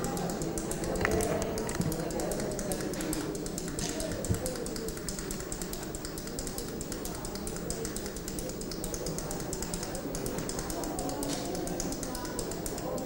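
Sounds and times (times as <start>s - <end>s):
dense irregular clicking: 0.0s - 13.0s.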